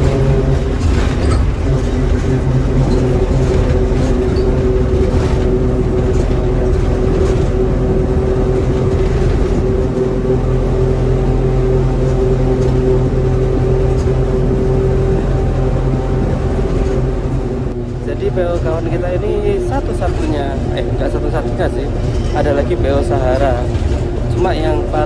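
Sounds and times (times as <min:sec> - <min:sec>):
bus diesel engine running: 0:00.0 - 0:25.0
road noise: 0:00.0 - 0:25.0.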